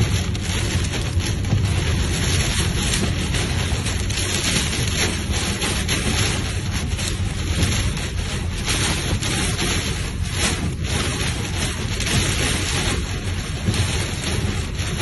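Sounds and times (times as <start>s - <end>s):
low rumble: 0.0s - 15.0s
rain and wind on a car: 0.0s - 15.0s.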